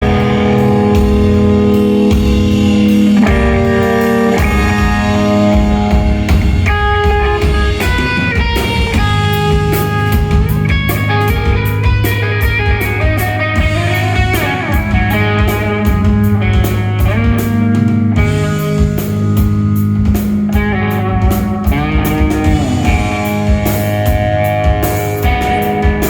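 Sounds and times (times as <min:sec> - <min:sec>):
bass guitar: 0:00.0 - 0:26.0
drum and cymbal hits: 0:00.0 - 0:26.0
sliding electric guitar lines: 0:00.0 - 0:26.0.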